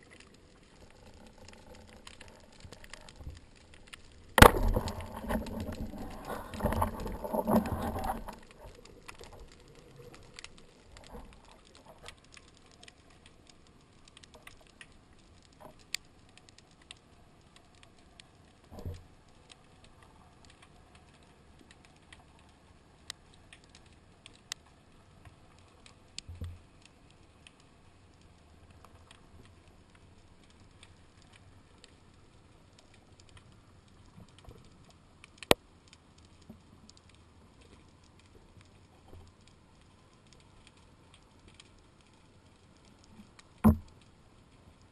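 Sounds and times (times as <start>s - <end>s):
faint underwater crackle: 0.0s - 44.9s.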